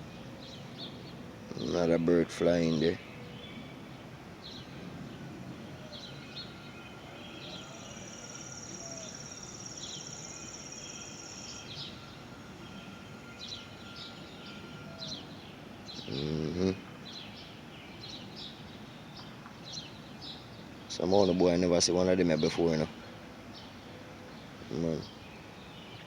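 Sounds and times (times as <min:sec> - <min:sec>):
outdoor background hiss: 0:00.0 - 0:26.0
small birds chirping: 0:00.0 - 0:26.0.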